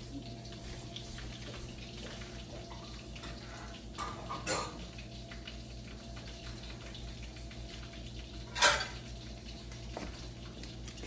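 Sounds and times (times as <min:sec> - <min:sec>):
low hum with light hiss: 0:00.0 - 0:11.0.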